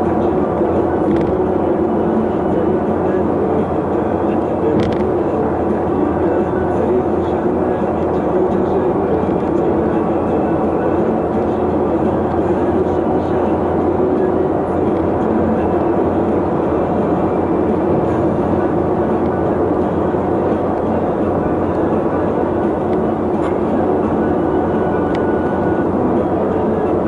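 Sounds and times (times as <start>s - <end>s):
vehicle rumble and road noise: 0.0s - 27.0s.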